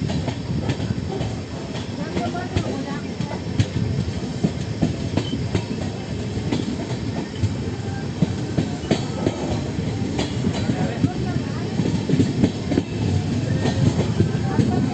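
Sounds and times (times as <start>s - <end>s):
rail clicks and clatter: 0.0s - 14.9s
train wheels rumbling on track: 0.0s - 14.9s.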